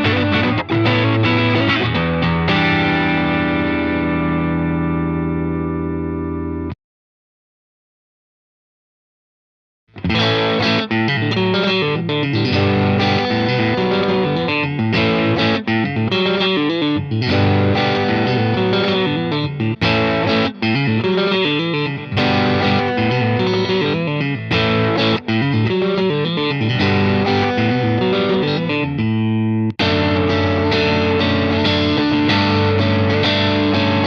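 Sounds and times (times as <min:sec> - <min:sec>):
electric guitar through amplifier: 0:00.0 - 0:06.8, 0:09.9 - 0:34.0.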